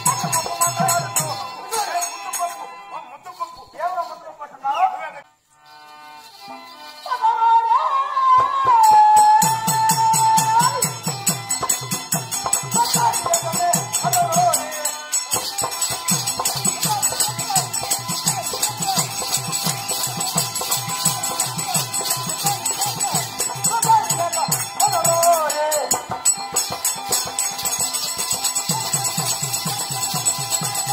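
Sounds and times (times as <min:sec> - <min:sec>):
bells jingling: 0:00.0 - 0:05.0, 0:08.8 - 0:30.9.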